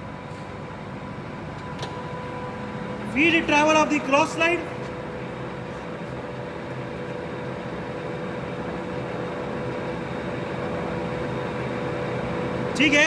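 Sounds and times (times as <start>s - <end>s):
lathe humming and whining: 0.0s - 13.0s.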